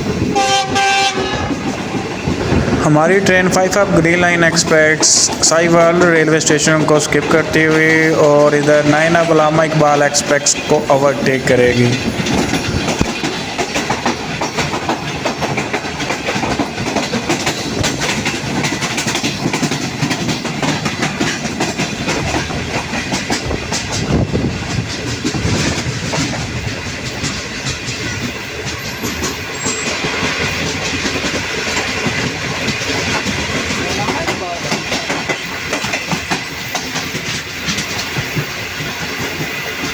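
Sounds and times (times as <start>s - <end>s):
clickety-clack over rail joints: 0.0s - 39.9s
train wheels rumbling on rails: 0.0s - 39.9s.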